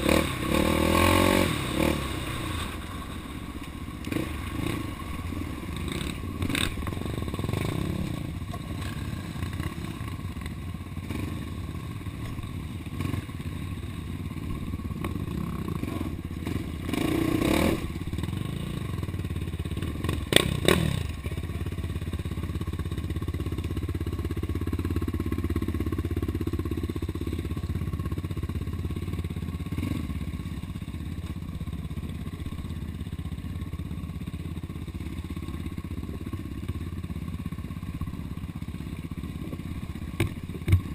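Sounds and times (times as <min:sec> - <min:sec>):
off-road vehicle engine running: 0:00.0 - 0:40.9.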